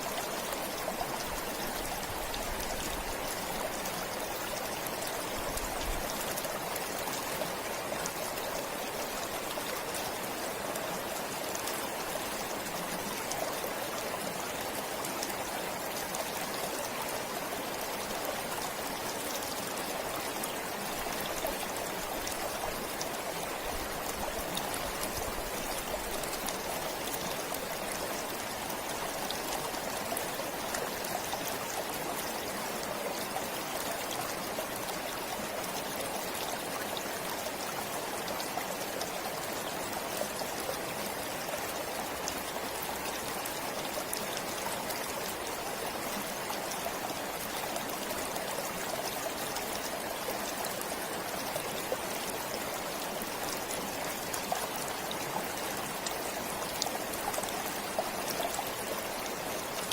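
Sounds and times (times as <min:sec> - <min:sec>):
water trickling over stones: 0:00.0 - 0:59.9.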